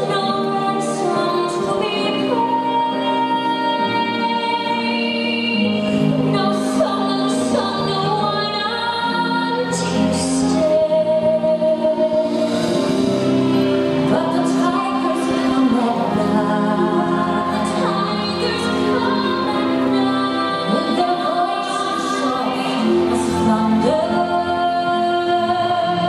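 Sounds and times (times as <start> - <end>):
recorded music in large hall: 0.0 - 26.0.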